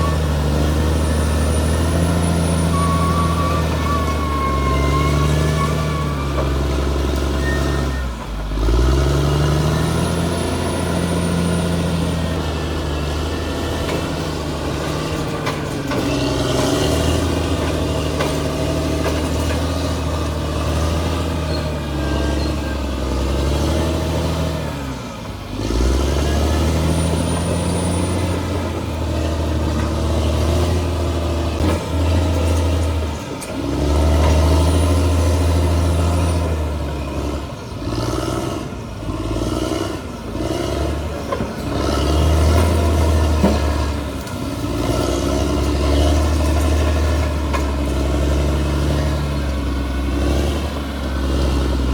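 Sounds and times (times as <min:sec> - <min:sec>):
bulldozer diesel engine working: 0:00.0 - 0:51.9.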